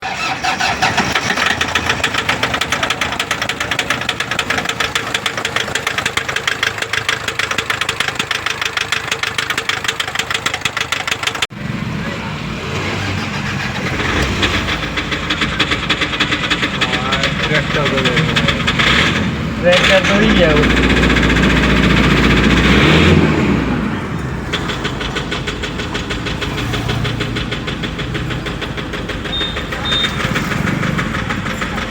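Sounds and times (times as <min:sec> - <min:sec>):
diesel engine knocking: 0:00.0 - 0:31.9.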